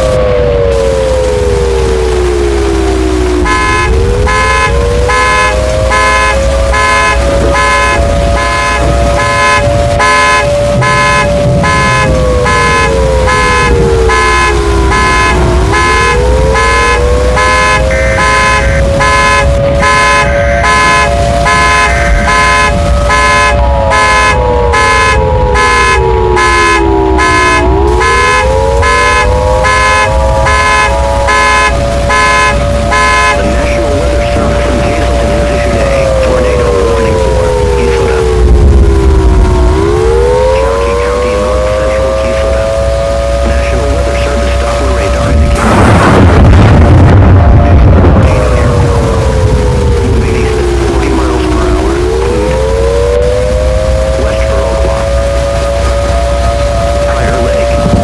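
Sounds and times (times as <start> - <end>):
steady alarm tone: 0.0 - 58.0
tornado siren winding: 0.0 - 58.0
car alarm honking: 2.2 - 58.0.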